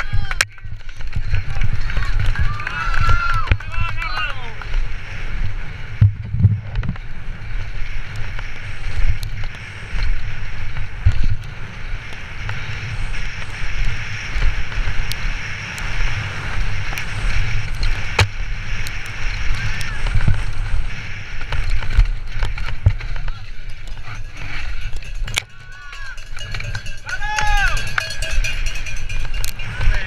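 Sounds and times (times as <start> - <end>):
bike knocking and rattling: 0.0 - 12.7, 13.3 - 30.0
wind on microphone: 0.0 - 30.0.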